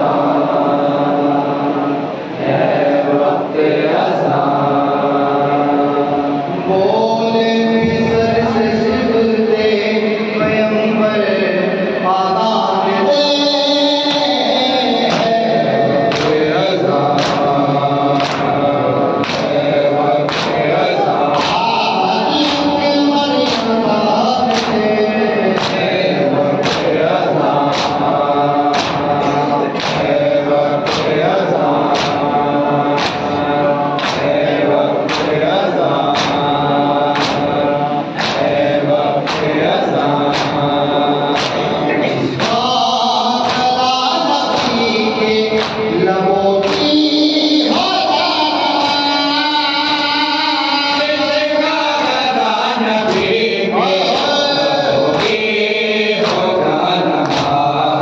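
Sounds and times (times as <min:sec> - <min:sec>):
men chanting in unison: 0:00.0 - 0:58.0
rhythmic chest-beating slaps: 0:00.0 - 0:58.0.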